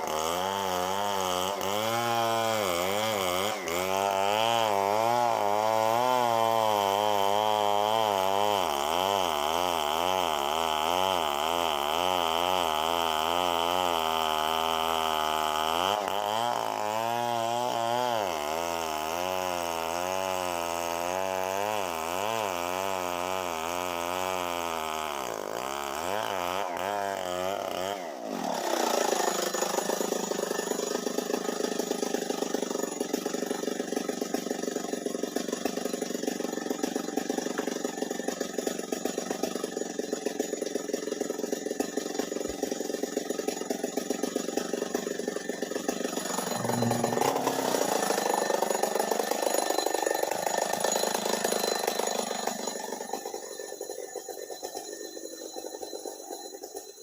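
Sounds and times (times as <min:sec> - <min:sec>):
chainsaw cutting: 0:00.0 - 0:57.0.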